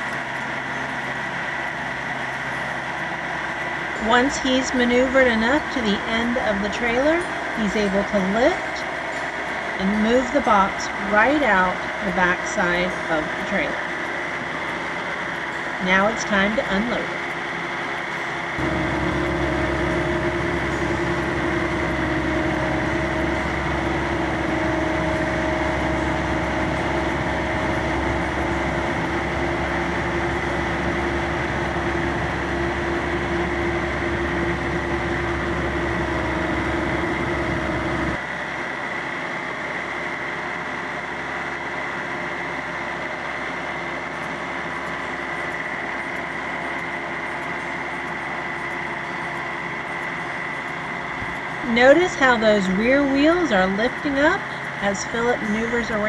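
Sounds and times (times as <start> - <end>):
loader engine running under load: 0.0 - 56.0.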